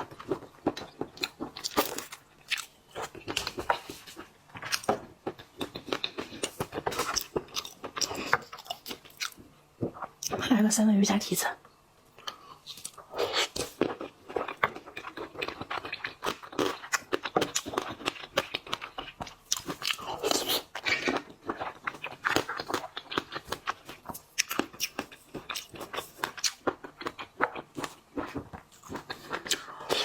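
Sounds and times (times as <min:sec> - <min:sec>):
chewing seafood: 0:00.0 - 0:10.4, 0:12.2 - 0:30.0.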